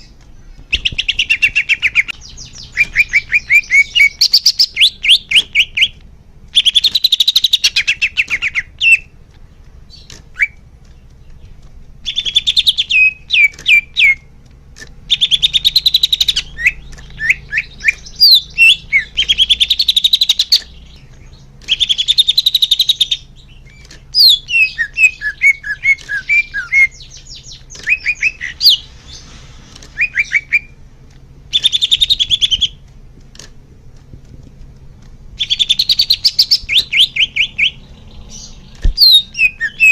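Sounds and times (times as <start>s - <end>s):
leafbird singing buzzy trills: 0.0s - 39.9s.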